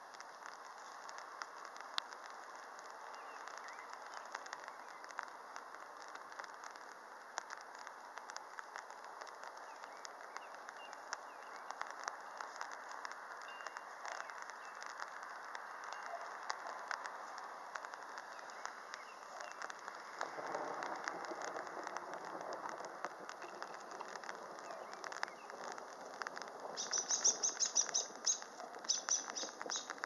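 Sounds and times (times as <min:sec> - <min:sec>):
faint irregular ticks and clicks: 0:00.0 - 0:30.0
steady outdoor hiss: 0:00.0 - 0:30.0.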